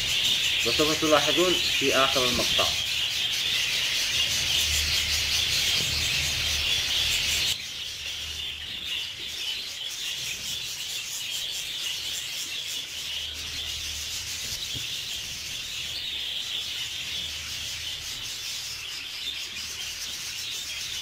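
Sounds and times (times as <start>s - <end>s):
flock of budgerigars twittering: 0.0s - 21.0s.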